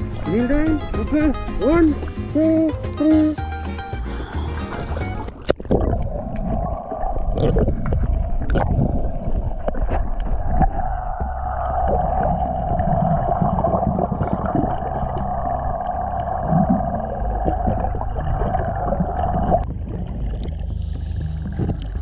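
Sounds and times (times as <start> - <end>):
muffled underwater rush: 4.1 - 22.0
regulator exhaust bubbling: 4.4 - 22.0.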